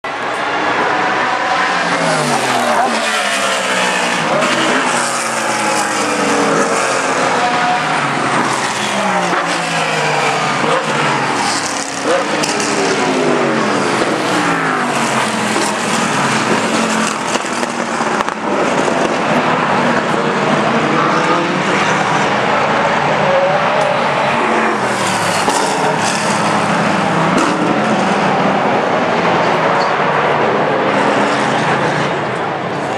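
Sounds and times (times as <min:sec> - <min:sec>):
race car engines passing at speed: 0:00.0 - 0:32.9.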